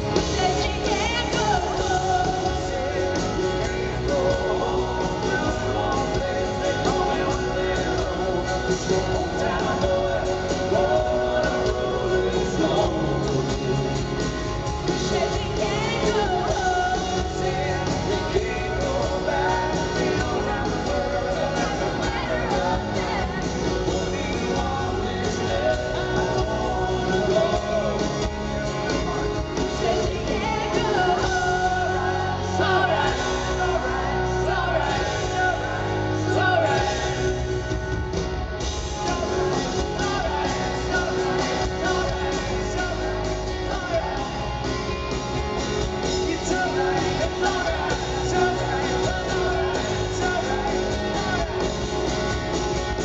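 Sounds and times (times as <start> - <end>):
live rock band with singing: 0.0 - 53.0.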